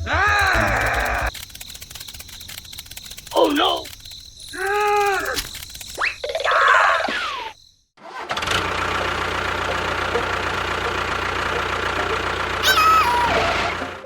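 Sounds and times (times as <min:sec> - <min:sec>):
small engine running: 0:00.0 - 0:06.0, 0:08.0 - 0:14.0.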